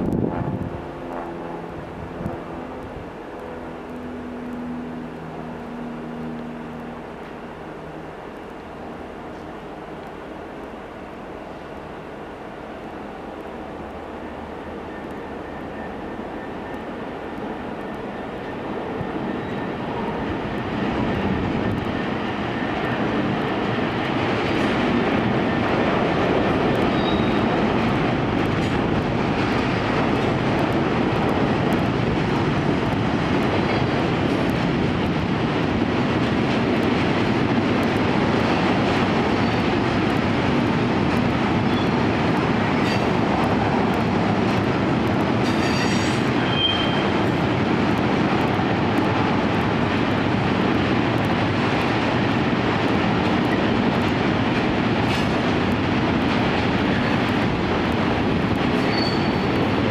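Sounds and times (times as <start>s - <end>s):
freight train wheels on rails: 0.0s - 59.9s.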